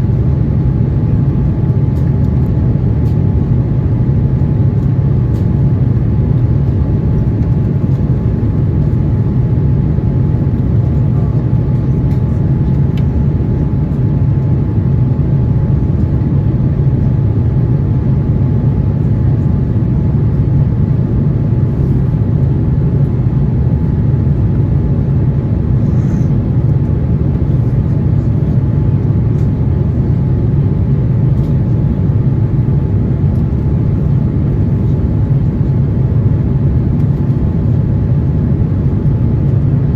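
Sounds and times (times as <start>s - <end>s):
airplane engine and airflow rumble: 0.0s - 39.9s.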